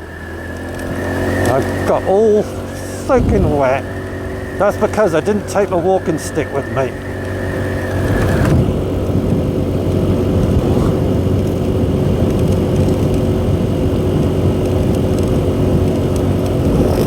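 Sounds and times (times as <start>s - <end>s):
engine hum: 0.0s - 17.0s
tyre and road rumble: 0.0s - 17.0s.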